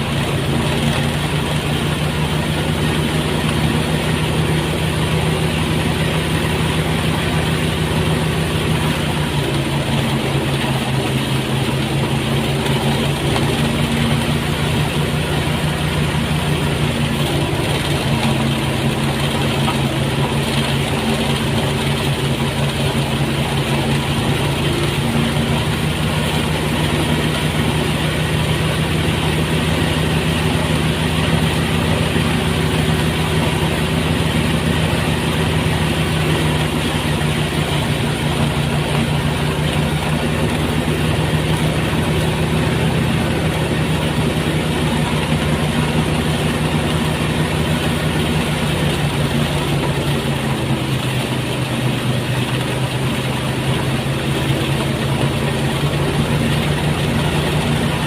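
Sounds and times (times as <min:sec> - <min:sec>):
threshing machine engine humming: 0:00.0 - 0:58.0.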